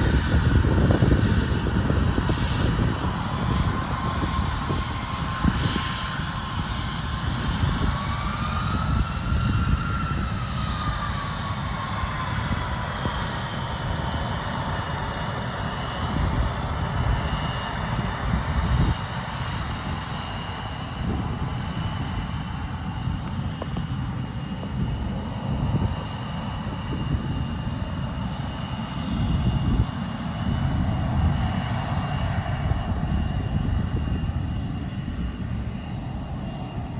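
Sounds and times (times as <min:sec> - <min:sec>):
jet engine whine: 0:00.0 - 0:36.9.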